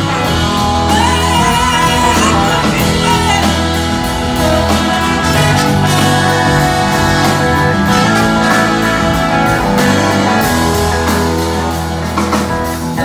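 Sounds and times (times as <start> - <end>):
live blues-rock band: 0.0 - 13.0
sliding bending guitar lead: 0.0 - 13.0.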